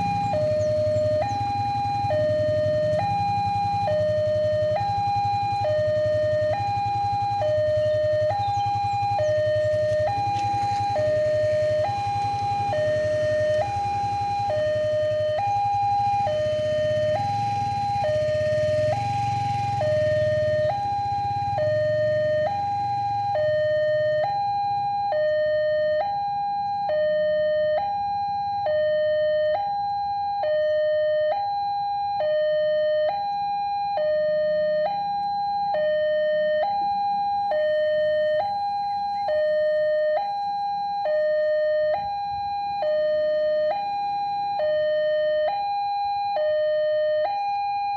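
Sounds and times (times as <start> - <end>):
level crossing alarm: 0.0 - 47.9.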